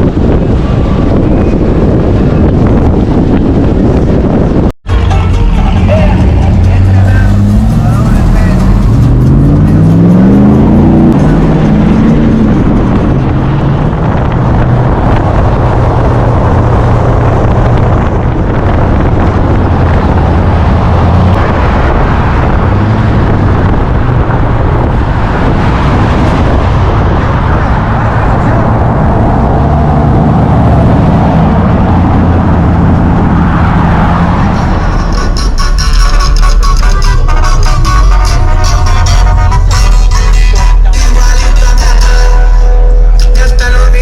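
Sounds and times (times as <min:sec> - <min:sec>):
vehicle engine rumbling: 0:00.0 - 0:44.0.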